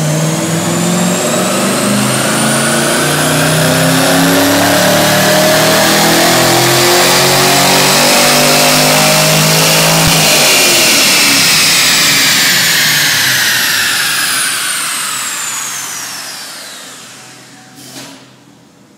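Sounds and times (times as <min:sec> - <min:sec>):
car engine running hard: 0:00.0 - 0:17.8
dyno roller whine: 0:00.0 - 0:17.9.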